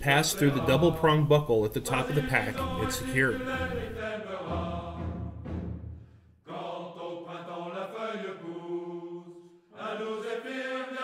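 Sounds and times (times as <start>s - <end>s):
choir singing long notes: 0.0s - 11.0s.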